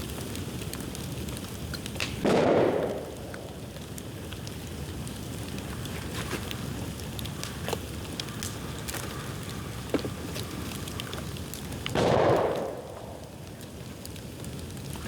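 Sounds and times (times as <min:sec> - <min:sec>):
bamboo fire crackling and popping: 0:00.0 - 0:15.0.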